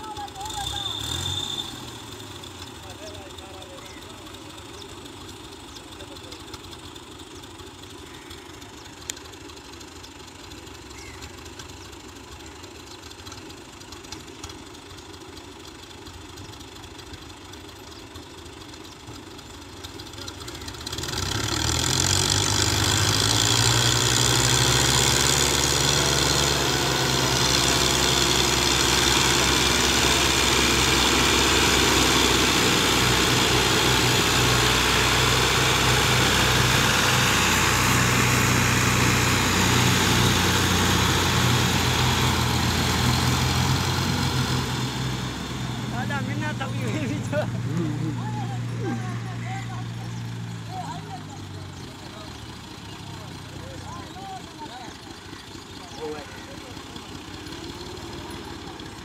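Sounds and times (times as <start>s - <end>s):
diesel tractor engines under load: 0.0s - 59.0s.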